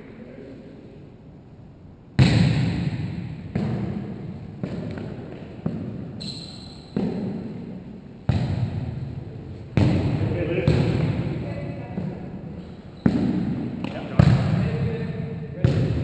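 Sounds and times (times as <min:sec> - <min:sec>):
volleyball hits echoing: 0:02.2 - 0:16.0.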